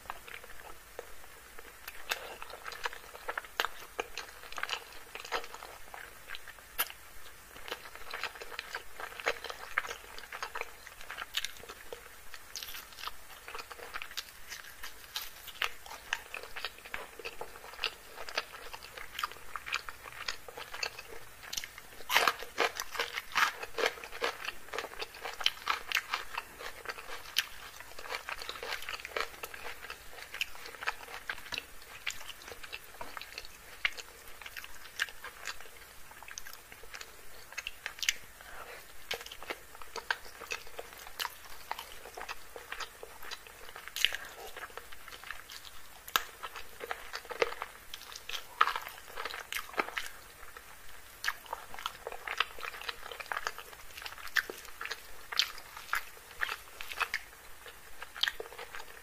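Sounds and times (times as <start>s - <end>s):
chewing and lip smacks: 7.6s - 50.6s, 51.2s - 59.0s.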